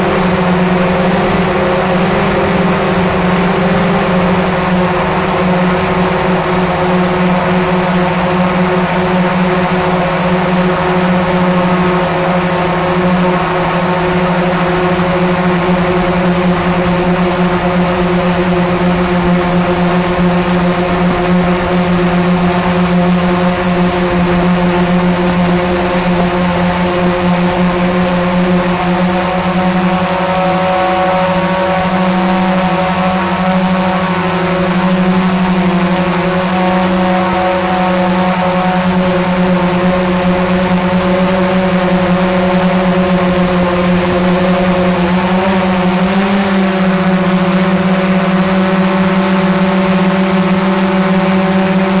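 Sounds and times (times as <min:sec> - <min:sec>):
drone propellers humming: 0:00.0 - 0:52.0.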